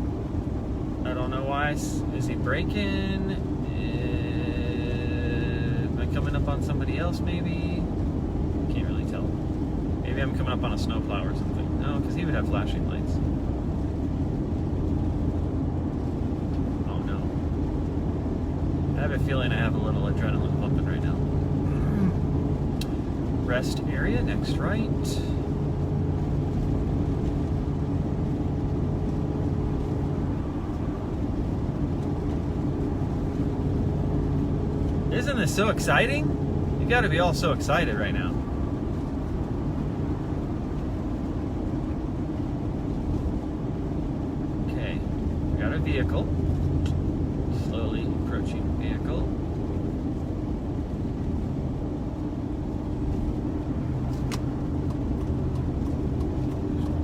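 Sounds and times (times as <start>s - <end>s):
vehicle engine and tyre drone: 0.0s - 57.0s.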